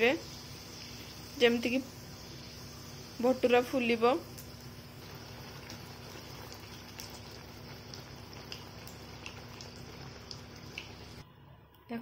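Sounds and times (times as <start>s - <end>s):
oil sizzling with pops: 0.0s - 11.2s.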